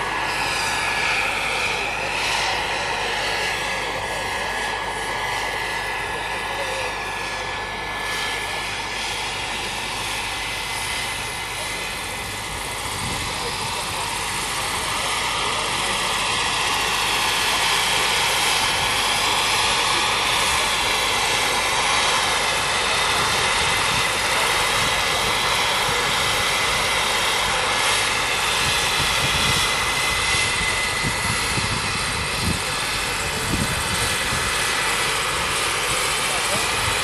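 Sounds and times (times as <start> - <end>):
model helicopter turbine whine: 0.0 - 37.0.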